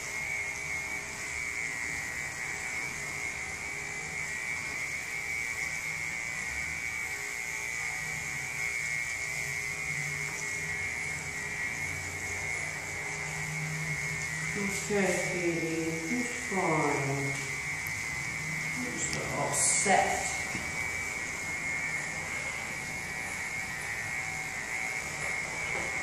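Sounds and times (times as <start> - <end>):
electric clippers whining: 0.0 - 26.0.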